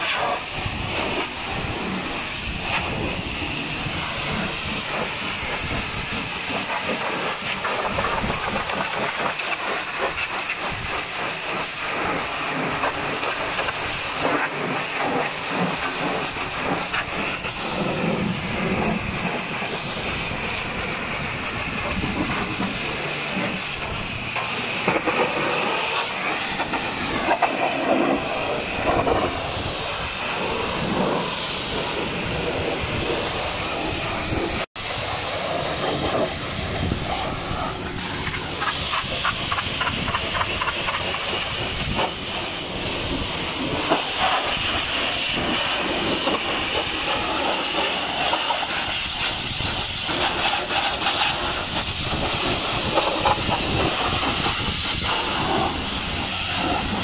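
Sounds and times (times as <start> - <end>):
pressure washer spraying truck: 0.0 - 57.0.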